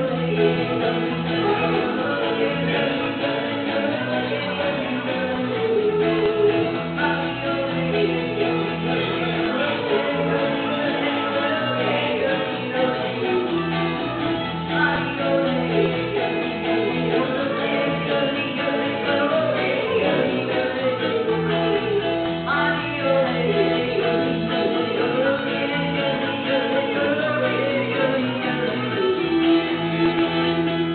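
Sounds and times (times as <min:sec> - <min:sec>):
country band playing: 0:00.0 - 0:30.9.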